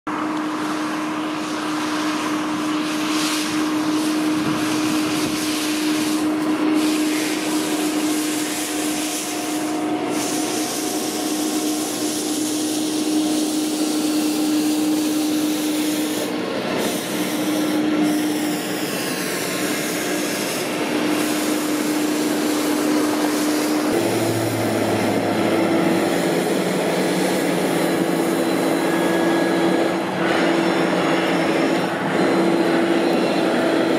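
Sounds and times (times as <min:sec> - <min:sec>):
tractor engine running: 0:00.1 - 0:33.9
rotary brush scraping pavement: 0:00.4 - 0:33.9.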